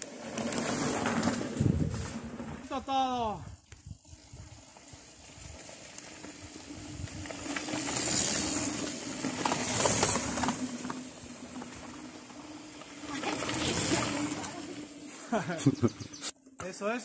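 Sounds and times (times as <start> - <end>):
bike tyres rolling on dirt: 0.0 - 15.6.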